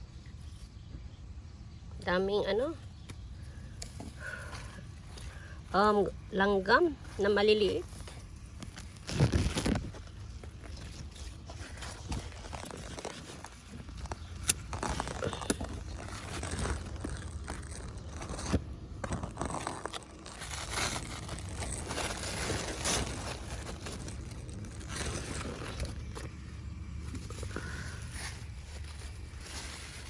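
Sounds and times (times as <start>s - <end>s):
leaves and vines rustling and tearing: 2.6s - 30.0s.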